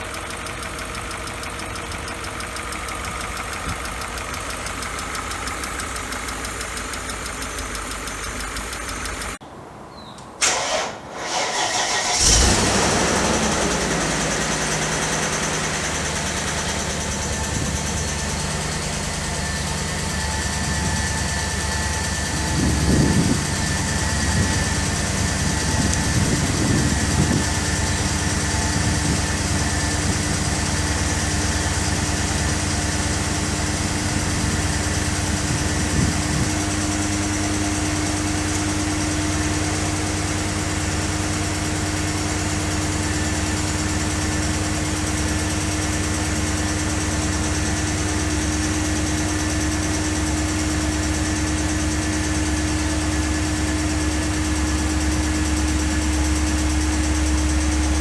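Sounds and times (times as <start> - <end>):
car engine idling: 0.0 - 9.4, 10.4 - 58.0
hydraulic lifter ticking: 0.0 - 9.4, 10.4 - 58.0.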